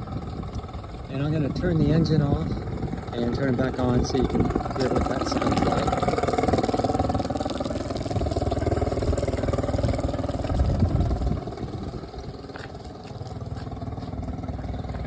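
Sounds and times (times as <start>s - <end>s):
outboard engine idling: 0.0s - 15.0s.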